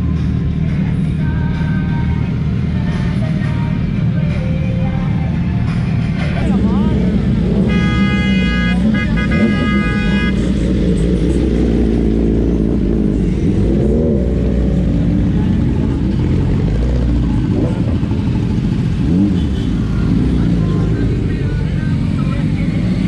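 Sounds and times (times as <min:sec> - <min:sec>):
motorcycle engines idling and revving: 0:00.0 - 0:23.0.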